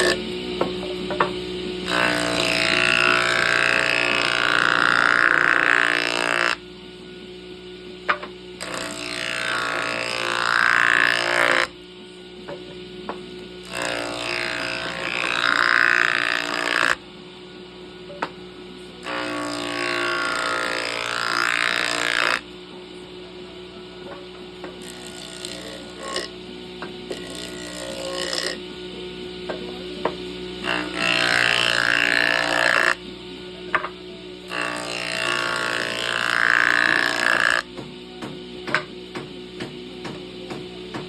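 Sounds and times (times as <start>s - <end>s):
power tool running: 0.0s - 41.0s.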